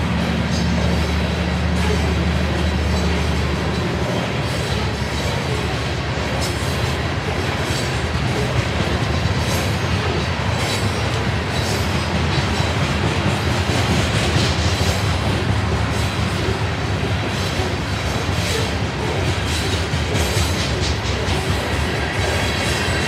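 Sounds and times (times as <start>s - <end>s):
steel wheels rumbling on rail: 0.0s - 23.0s
wheels clicking over rail joints: 0.0s - 23.0s.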